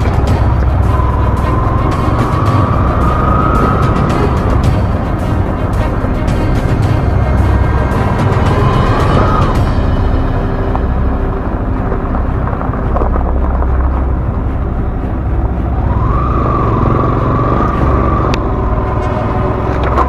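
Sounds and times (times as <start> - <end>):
tyres rumbling on dirt track: 0.0 - 20.0.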